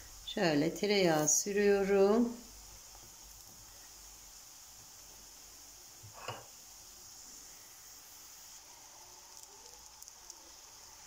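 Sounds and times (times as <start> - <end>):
flatbread sizzling in a pan: 0.0 - 11.0.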